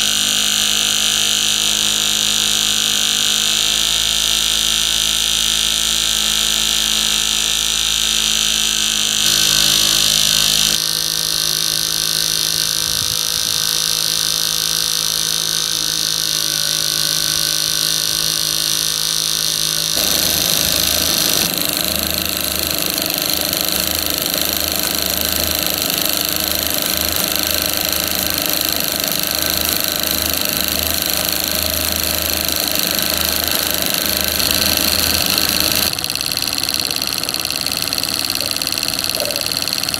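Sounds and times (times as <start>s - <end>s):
fast low engine pulsing: 3.5s - 39.9s.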